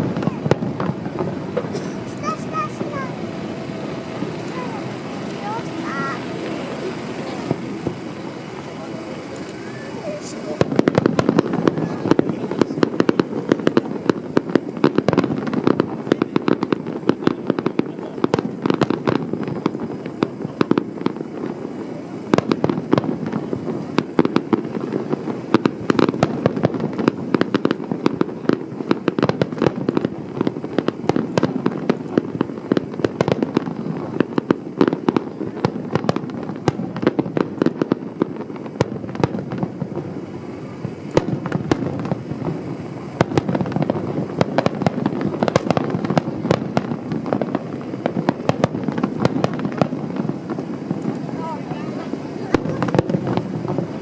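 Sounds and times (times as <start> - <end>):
fireworks bangs and crackles: 0.0 - 54.0
steady rumble: 0.0 - 54.0.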